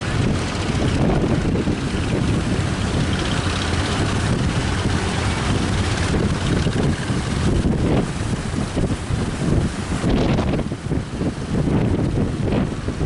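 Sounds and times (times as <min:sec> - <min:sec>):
boat engines: 0:00.0 - 0:13.0
strong wind buffeting microphone: 0:00.0 - 0:13.0
surf rumbling: 0:00.0 - 0:13.0.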